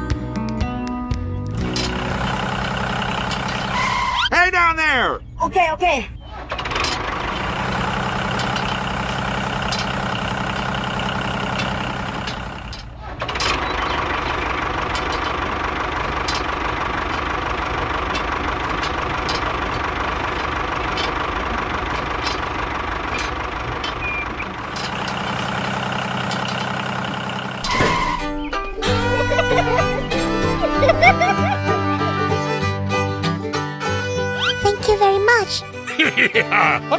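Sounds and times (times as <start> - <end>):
vehicle engine running: 1.5 - 4.3, 6.4 - 35.8.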